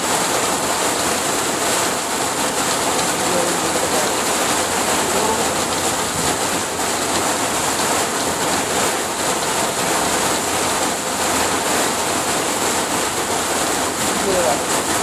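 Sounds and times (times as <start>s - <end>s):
heavy rain on vehicle roof: 0.0s - 15.0s
tyres on wet road: 0.0s - 15.0s.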